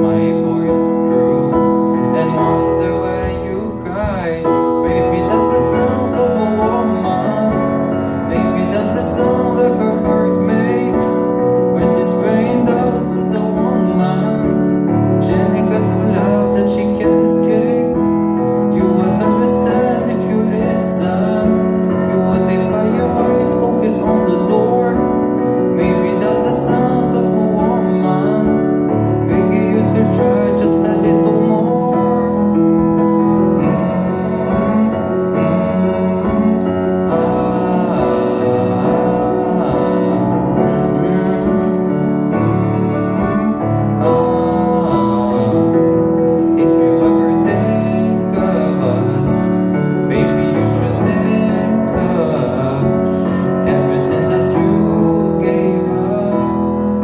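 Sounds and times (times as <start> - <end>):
keyboard playing chords: 0.0 - 57.0
person singing amplified: 0.0 - 57.0.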